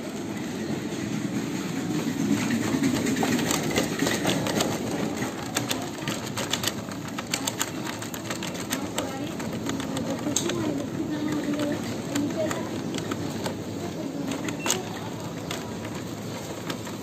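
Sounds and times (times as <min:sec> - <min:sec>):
shopping cart wheels rumbling: 0:00.0 - 0:17.0
cart rattling clicks: 0:00.3 - 0:17.0.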